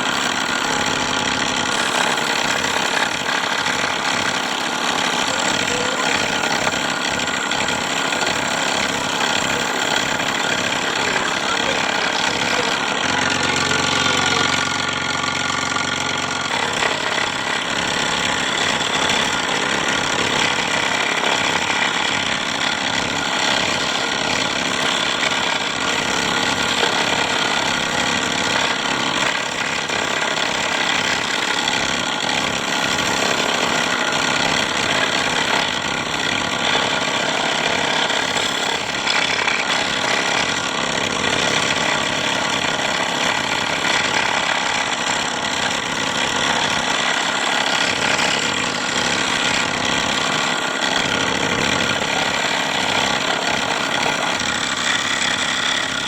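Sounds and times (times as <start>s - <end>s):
scroll saw rattling: 0.0s - 56.0s.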